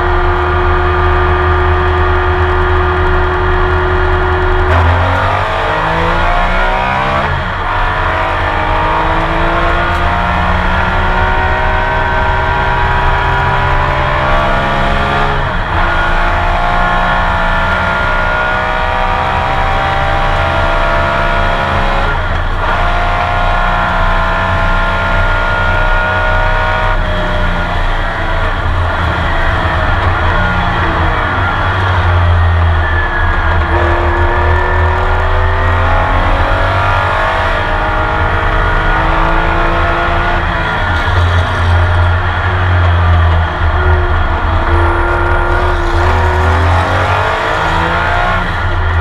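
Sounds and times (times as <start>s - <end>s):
race car engine at full throttle: 0.0s - 49.0s.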